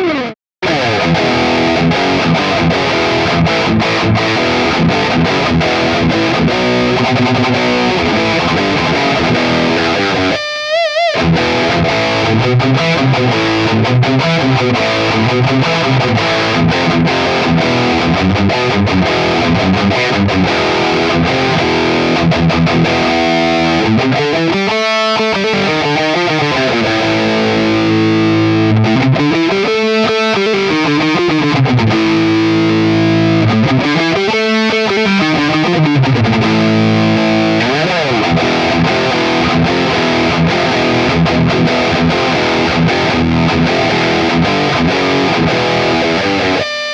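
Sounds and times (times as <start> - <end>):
distorted electric guitar riffs: 0.0 - 46.9
sweeping guitar effect: 0.0 - 46.9.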